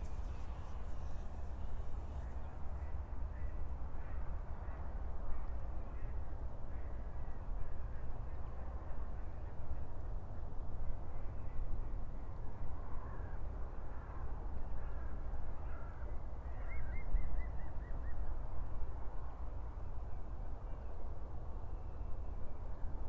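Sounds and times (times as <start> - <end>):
low wind rumble: 0.0 - 23.0.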